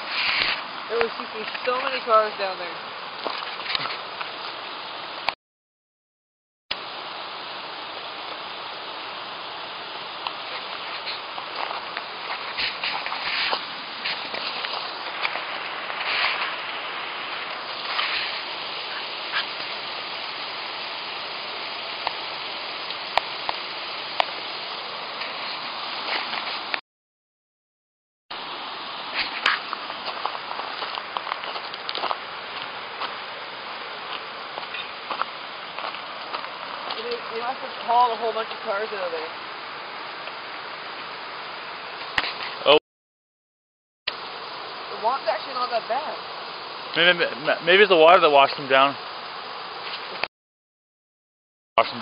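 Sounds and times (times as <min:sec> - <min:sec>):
river rushing: 0:00.0 - 0:05.3, 0:06.8 - 0:26.8, 0:28.4 - 0:42.8, 0:44.2 - 0:50.2.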